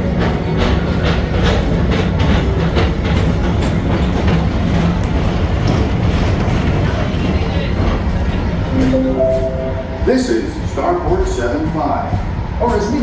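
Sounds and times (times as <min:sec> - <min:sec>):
ride train rumbling on track: 0:00.0 - 0:13.0.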